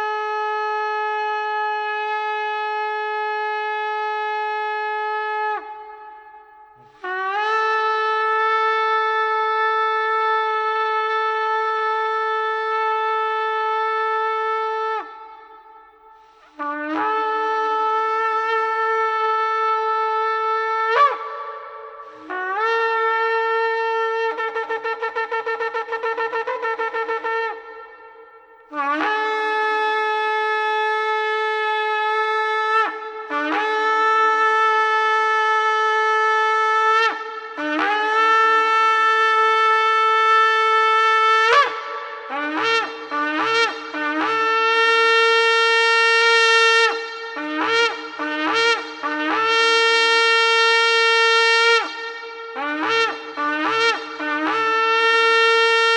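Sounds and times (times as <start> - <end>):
shofar blasts: 6.8 - 55.9.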